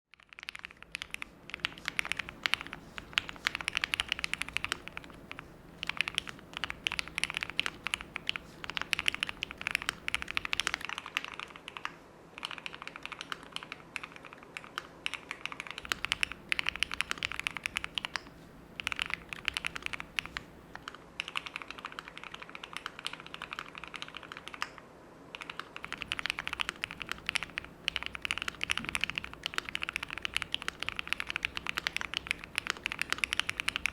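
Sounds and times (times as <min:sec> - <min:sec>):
mechanical keyboard typing: 0:00.1 - 0:33.9.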